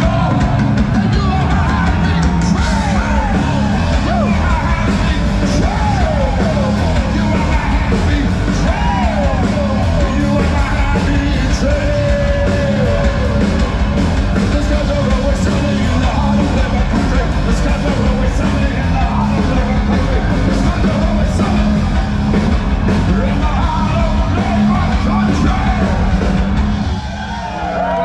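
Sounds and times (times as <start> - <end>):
live hard rock band: 0.0 - 28.0
shouted lead vocal: 0.0 - 28.0.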